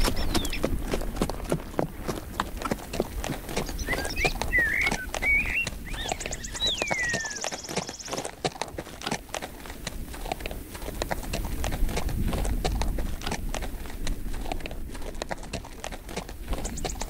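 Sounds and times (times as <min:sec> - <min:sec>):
horse hooves clip-clopping: 0:00.0 - 0:17.0.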